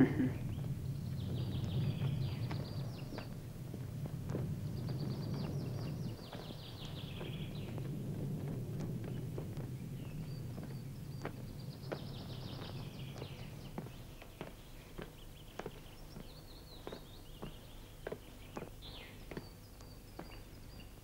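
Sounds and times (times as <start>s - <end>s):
small birds chirping: 0.0s - 21.0s
footsteps walking: 0.4s - 20.8s.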